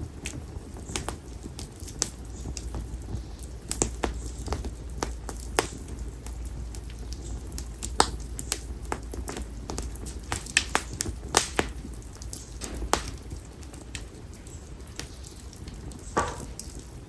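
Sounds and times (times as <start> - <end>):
firewood crackling and popping: 0.0 - 17.0
low steady rumble: 0.0 - 17.0.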